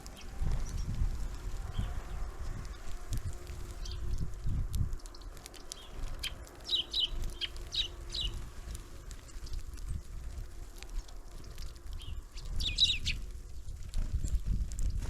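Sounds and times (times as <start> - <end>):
small birds calling: 0.0 - 4.2, 4.9 - 14.4.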